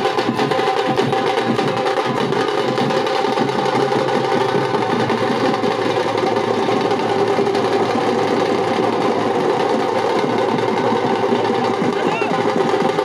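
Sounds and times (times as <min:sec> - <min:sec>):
drum roll: 0:00.0 - 0:13.0.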